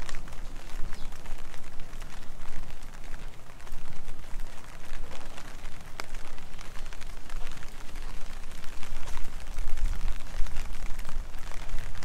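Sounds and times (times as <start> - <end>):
heavy rain patter: 0.0 - 12.0.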